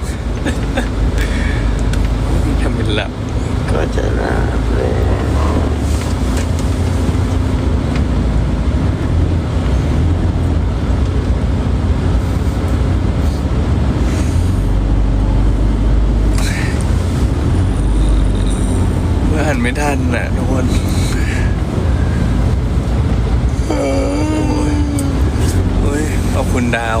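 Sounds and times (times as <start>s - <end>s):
road and engine noise: 0.0s - 27.0s.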